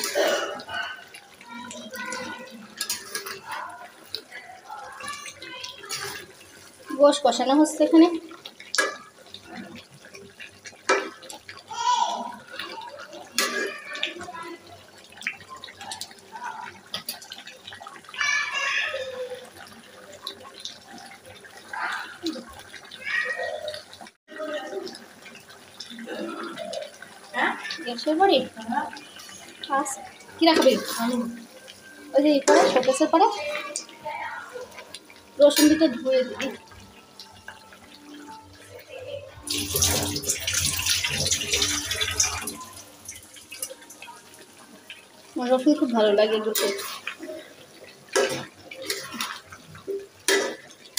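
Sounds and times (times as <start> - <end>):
chicken sizzling in pan: 0.0 - 50.9
water pouring: 0.0 - 50.9.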